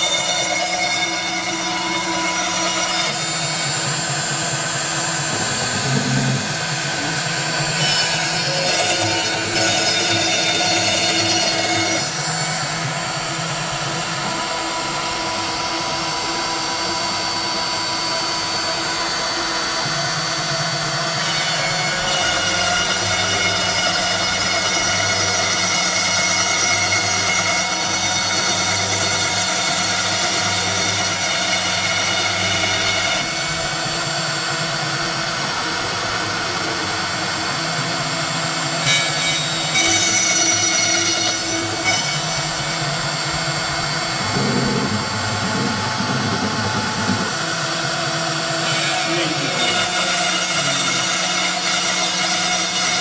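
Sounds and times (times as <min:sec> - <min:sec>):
cnc router spindle whining: 0:00.0 - 0:53.0.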